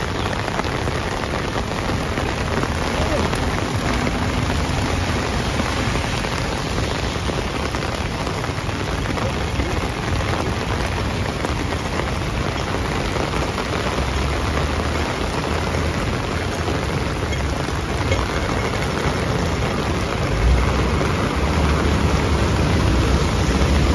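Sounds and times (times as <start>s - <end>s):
rain on wet pavement: 0.0s - 23.9s.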